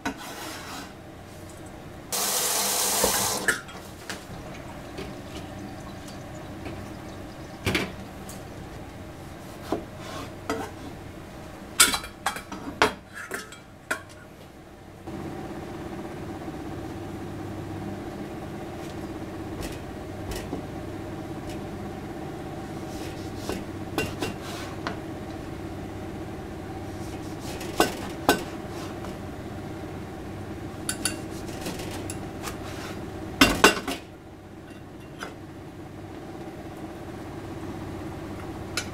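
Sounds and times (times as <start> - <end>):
steady low hum: 0.9 - 38.9.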